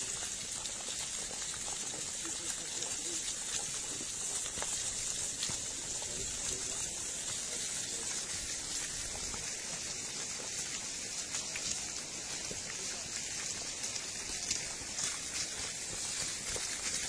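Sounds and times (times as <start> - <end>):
gravel pouring down a slope: 0.0 - 17.0.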